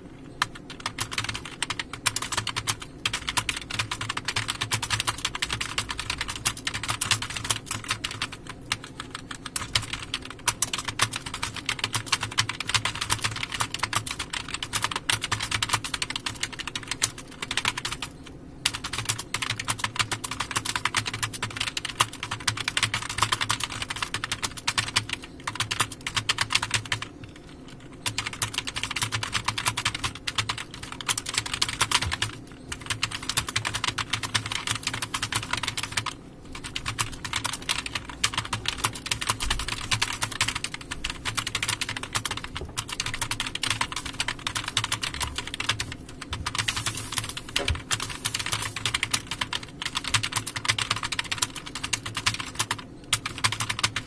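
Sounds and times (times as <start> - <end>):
fast keyboard typing: 0.2 - 54.0.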